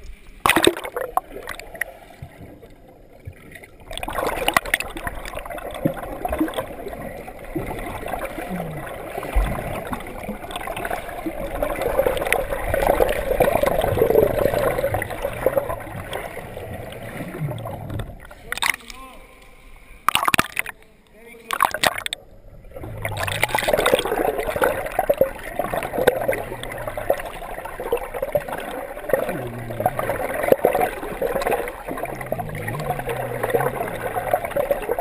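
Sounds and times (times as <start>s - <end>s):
underwater swimming strokes: 0.0s - 35.0s.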